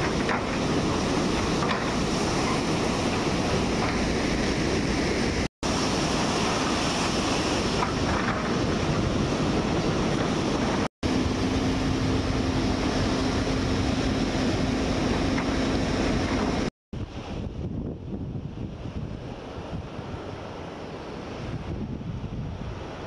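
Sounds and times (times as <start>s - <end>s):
surf breaking on a beach: 0.0s - 23.0s
wind on microphone: 0.0s - 23.0s.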